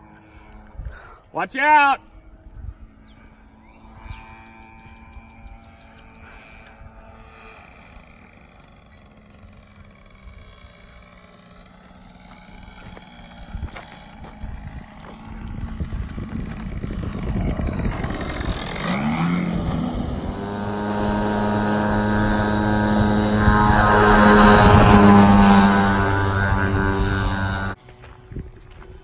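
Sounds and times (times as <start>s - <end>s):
model airplane engine: 0.0s - 28.3s.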